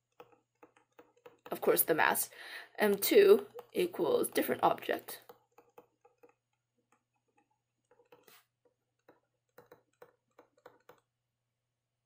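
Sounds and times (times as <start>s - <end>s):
stylus tapping on tablet screen: 0.0s - 2.2s, 2.8s - 11.1s.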